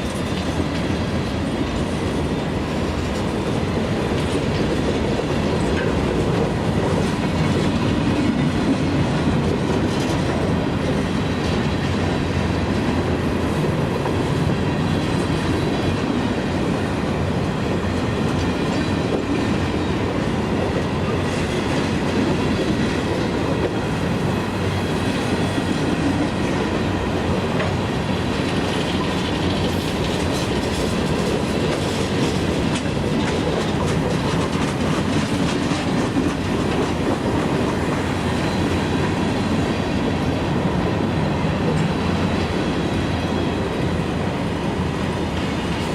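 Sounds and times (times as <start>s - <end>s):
train wheels clattering on rails: 0.0s - 45.9s.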